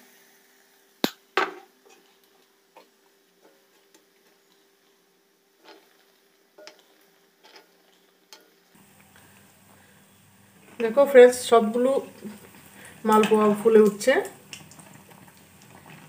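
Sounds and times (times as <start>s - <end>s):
batter sizzling in oil: 0.0s - 16.0s.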